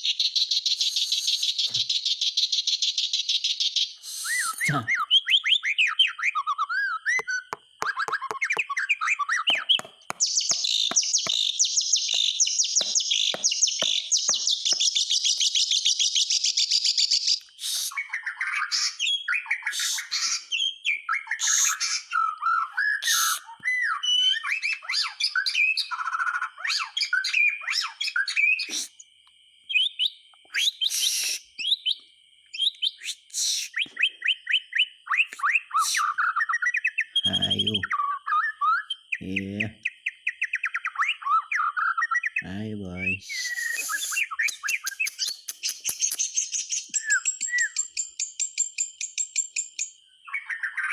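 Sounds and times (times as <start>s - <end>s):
bird singing varied song: 0.0s - 50.9s.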